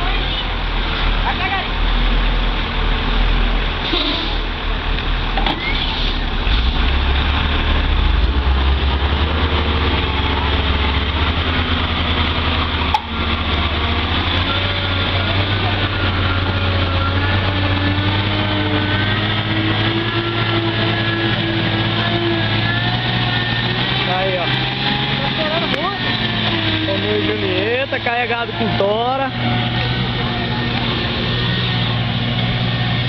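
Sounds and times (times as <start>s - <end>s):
diesel truck engine revving: 0.0s - 33.0s.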